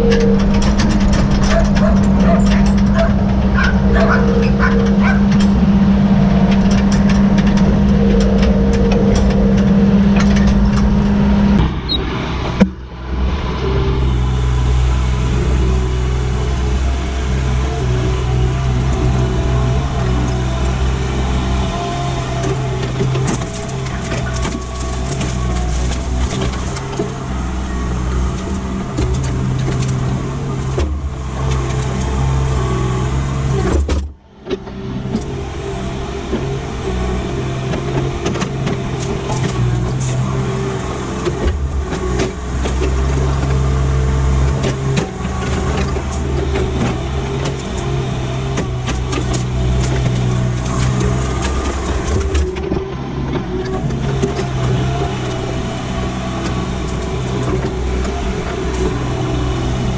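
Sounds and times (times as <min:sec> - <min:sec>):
clanks and rattles: 0:00.0 - 0:12.9, 0:17.4 - 0:59.9
diesel engine running: 0:00.0 - 0:59.9.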